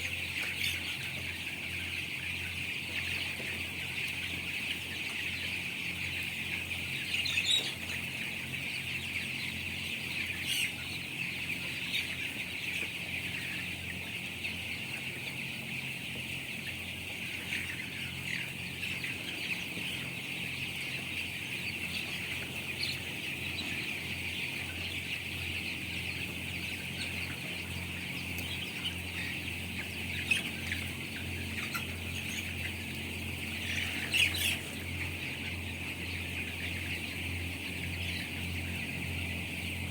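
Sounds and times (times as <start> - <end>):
chicks cheeping and clucking: 0.0 - 39.9.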